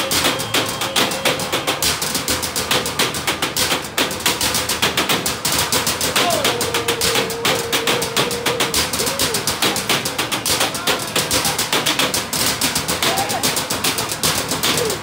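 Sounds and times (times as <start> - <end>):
drumsticks beating trash cans: 0.0 - 15.0.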